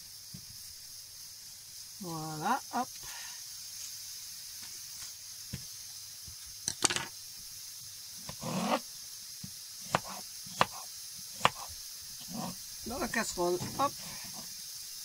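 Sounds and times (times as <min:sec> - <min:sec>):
pressure cooker hissing steam: 0:00.0 - 0:15.0.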